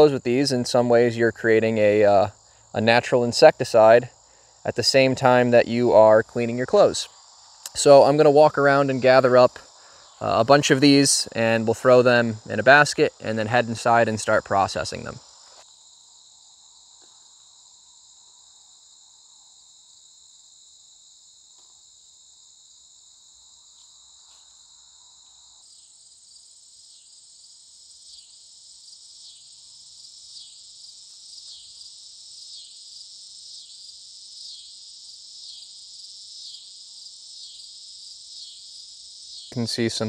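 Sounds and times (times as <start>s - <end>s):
insects trilling and chirping: 0.0s - 40.0s.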